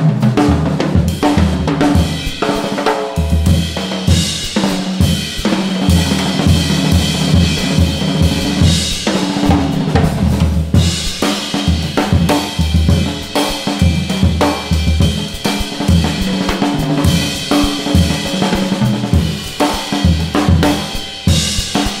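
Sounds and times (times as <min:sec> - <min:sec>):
drum-kit beat: 0:00.0 - 0:22.0.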